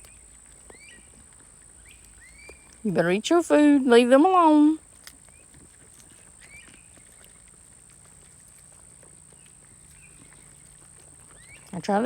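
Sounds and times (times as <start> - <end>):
goats moving and feeding: 0.0 - 12.0.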